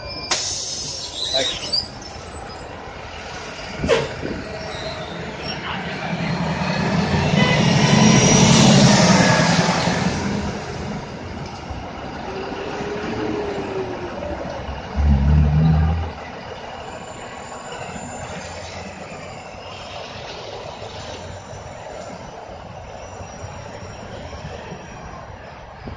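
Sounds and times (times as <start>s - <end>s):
street traffic: 0.0s - 25.9s
bus engine surging: 0.1s - 25.9s.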